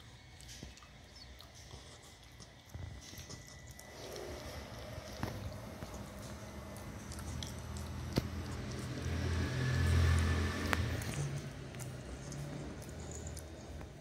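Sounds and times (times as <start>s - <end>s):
puppy chewing on a stick: 0.0s - 14.0s.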